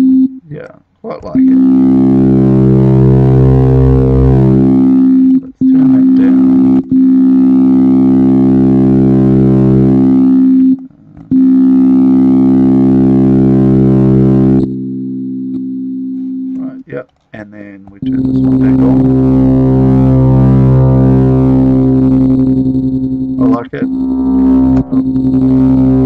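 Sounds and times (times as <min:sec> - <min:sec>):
synthesizer tone: 0:01.3 - 0:15.6, 0:18.0 - 0:26.0.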